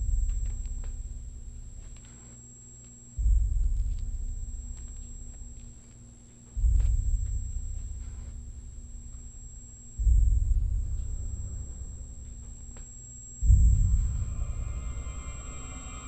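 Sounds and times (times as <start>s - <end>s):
deep low booms: 0.0s - 2.0s, 3.2s - 5.9s, 6.5s - 16.0s.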